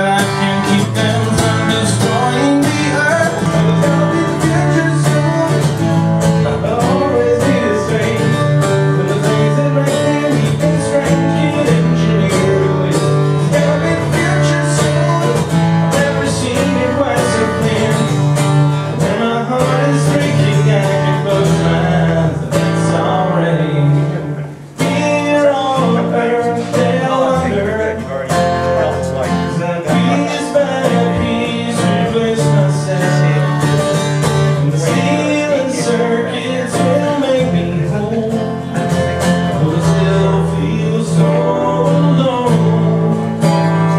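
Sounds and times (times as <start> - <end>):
acoustic guitar music: 0.0 - 43.9
person singing: 0.0 - 43.9.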